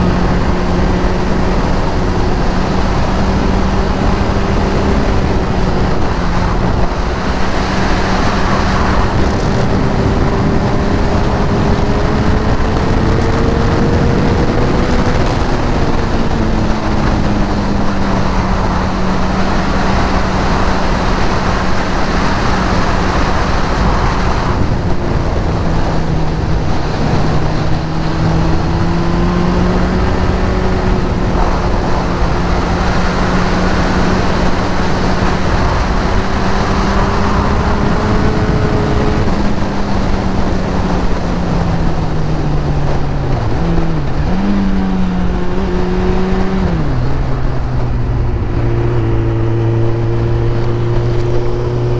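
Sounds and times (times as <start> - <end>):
motorcycle engine cruising: 0.0 - 51.9
wind rushing: 0.0 - 51.9.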